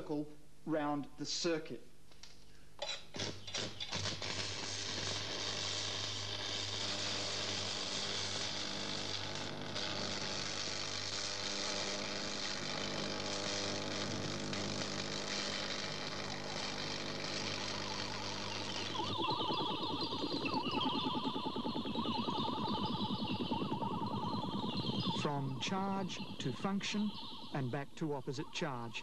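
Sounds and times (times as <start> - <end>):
low electrical buzz: 3.0 - 29.0
welding arc crackling and hissing: 3.1 - 29.0.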